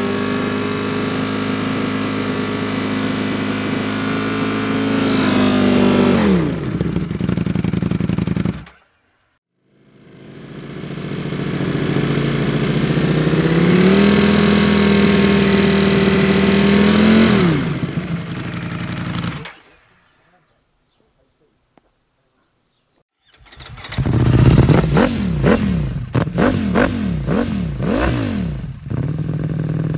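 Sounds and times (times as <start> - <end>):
motorcycle engine revving and idling: 0.0 - 9.0, 9.6 - 19.8, 23.2 - 29.9.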